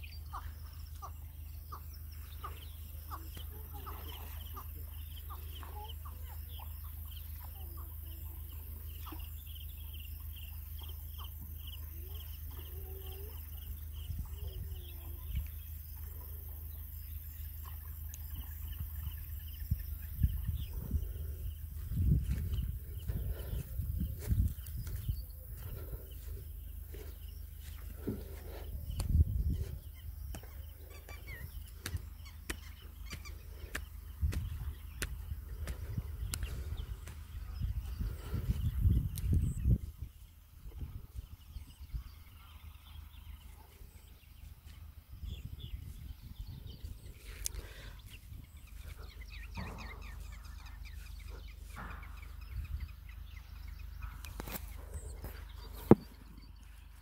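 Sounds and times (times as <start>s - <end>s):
wind buffeting microphone: 0.0s - 56.6s
high pulsing chirping: 0.0s - 57.0s.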